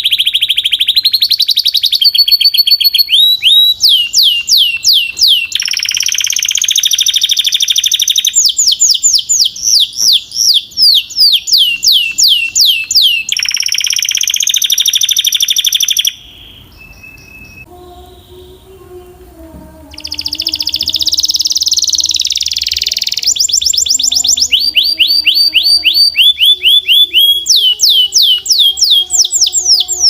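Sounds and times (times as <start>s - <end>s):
faint bird chirps: 0.0s - 18.7s, 19.9s - 30.0s
canary singing: 0.0s - 30.0s.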